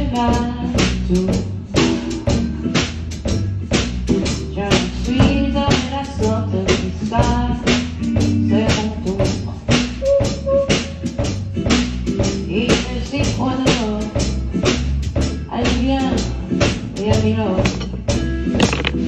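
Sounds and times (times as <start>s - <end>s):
music with drum beat and bass: 0.0s - 19.0s.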